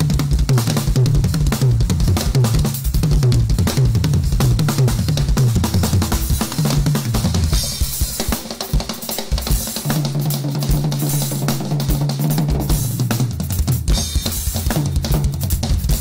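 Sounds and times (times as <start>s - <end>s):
fast drumming with cymbal crashes: 0.0s - 16.0s.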